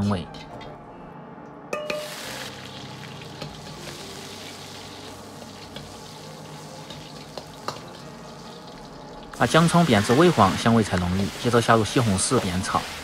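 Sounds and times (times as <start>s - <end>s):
food sizzling in a wok: 1.9s - 13.0s.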